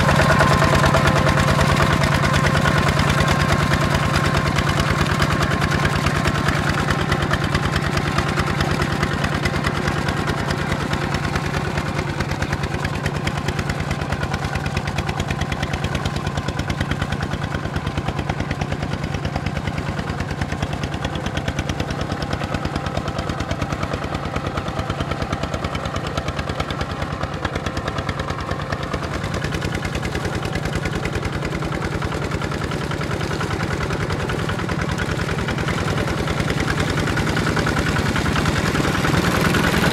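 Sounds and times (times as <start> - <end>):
diesel engine chugging under load: 0.0 - 39.9
steel wheels through mud: 0.0 - 39.9.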